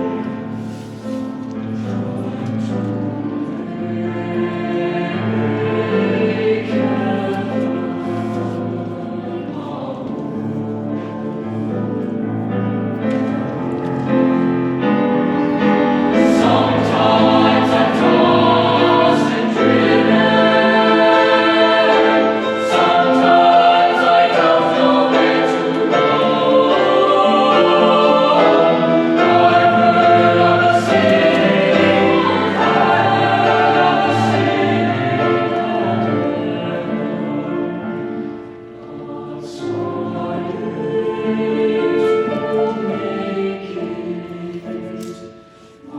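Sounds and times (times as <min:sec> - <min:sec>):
choir singing in parts: 0:00.0 - 0:45.9.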